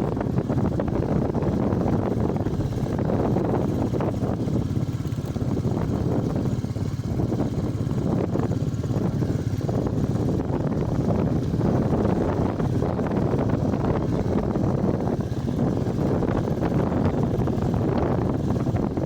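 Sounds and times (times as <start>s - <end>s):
motorcycle engine running: 0.0s - 19.0s
road rumble: 0.0s - 19.0s
wind: 0.0s - 19.0s.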